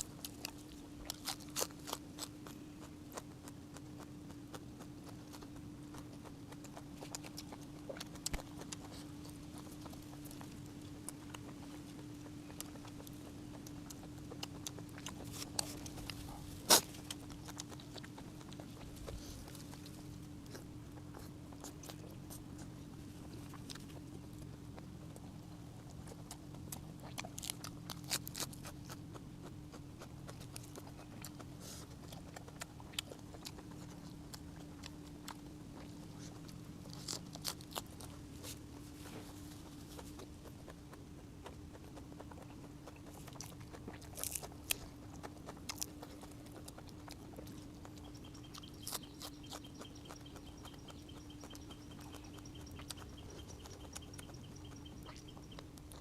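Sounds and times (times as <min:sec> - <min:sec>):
steady low hum: 0:00.0 - 0:56.0
wet chewing crunches: 0:00.0 - 0:56.0.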